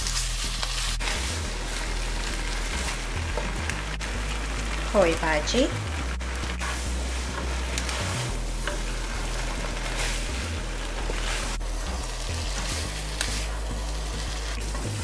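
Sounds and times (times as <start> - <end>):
noodles sizzling in a wok: 0.0 - 15.0.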